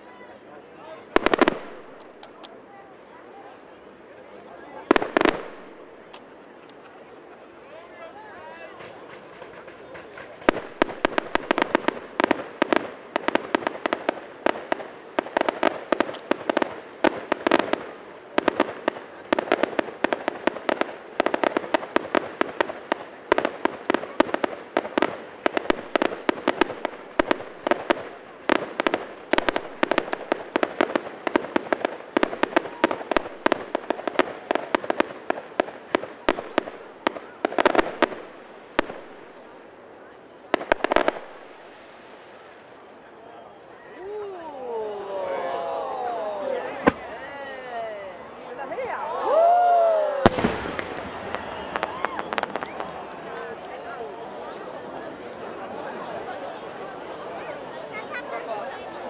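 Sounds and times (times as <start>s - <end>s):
fireworks bangs and crackles: 0.1s - 2.8s, 4.3s - 59.0s.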